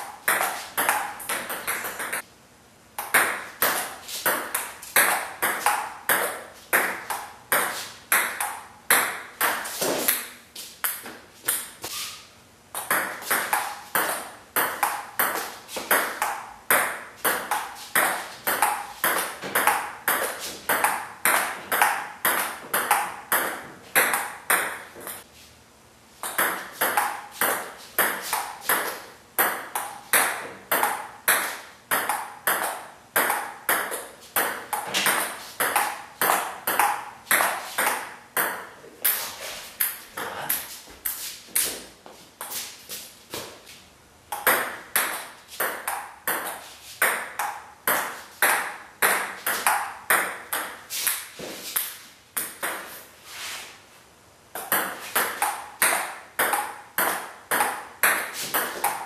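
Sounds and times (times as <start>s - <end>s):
table tennis ball bouncing on table: 0.0s - 2.3s, 3.0s - 11.9s, 12.7s - 25.3s, 26.2s - 39.2s, 44.3s - 53.0s, 54.6s - 59.0s.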